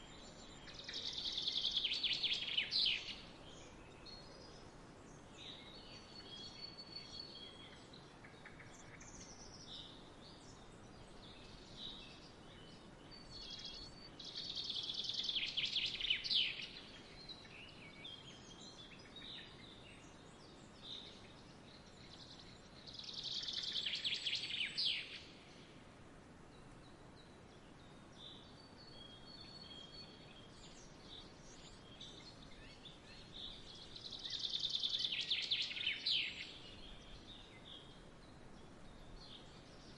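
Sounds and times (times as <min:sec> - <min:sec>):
faint outdoor hiss: 0:00.0 - 0:39.9
songbirds chirping and whistling: 0:00.0 - 0:39.9.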